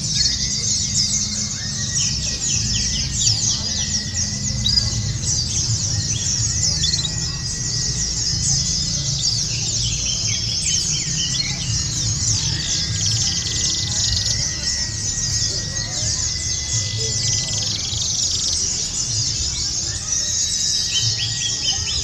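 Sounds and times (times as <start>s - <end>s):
chorus of birds chirping and trilling: 0.0s - 22.0s
low murmur: 0.0s - 22.0s.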